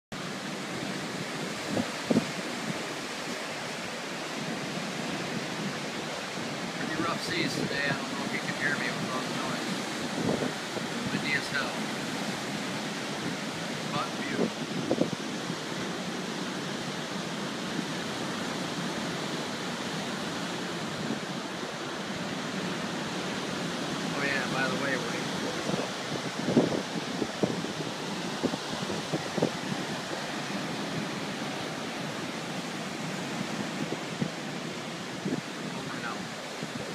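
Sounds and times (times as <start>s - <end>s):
ocean surf breaking: 0.1s - 36.9s
wind on microphone: 0.1s - 36.9s.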